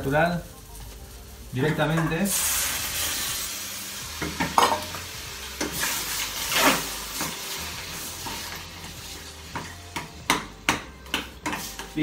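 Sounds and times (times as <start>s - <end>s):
vegetables sizzling in pan: 0.0s - 10.0s.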